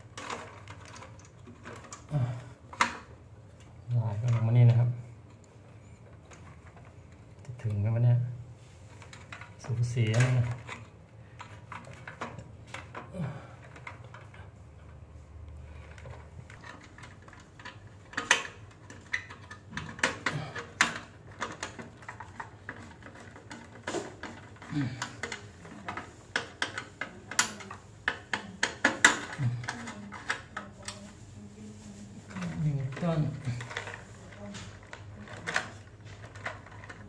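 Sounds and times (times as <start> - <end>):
clicks and knocks of handled parts: 0.0 - 8.2, 8.8 - 31.3, 31.9 - 37.0.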